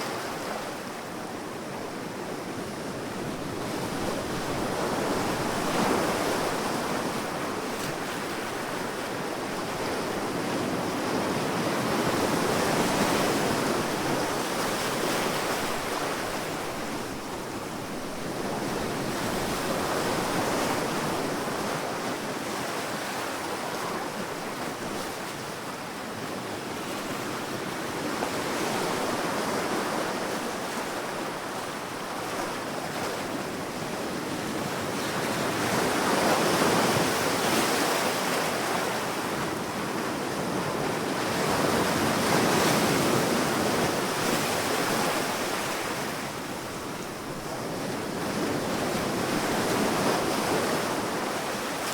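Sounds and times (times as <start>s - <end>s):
sea waves breaking on a beach: 0.0s - 51.9s.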